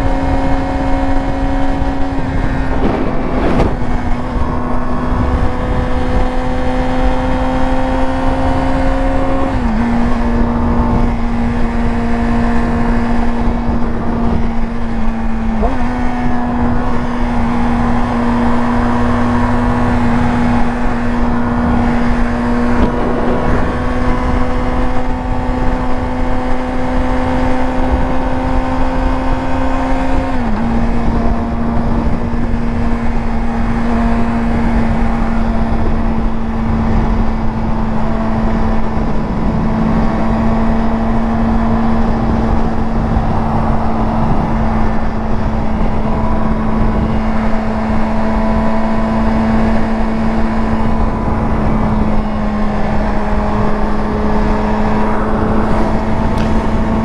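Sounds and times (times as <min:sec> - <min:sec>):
motorcycle engine at high revs: 0:00.0 - 0:57.0
rushing wind: 0:00.0 - 0:57.0.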